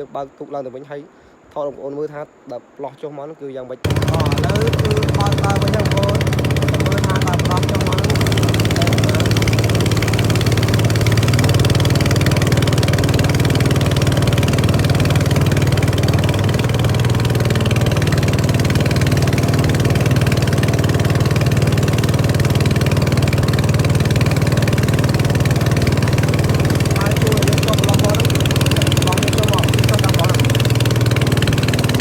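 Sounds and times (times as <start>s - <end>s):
motorboat engine running: 3.9s - 32.0s
rushing water hiss: 3.9s - 32.0s.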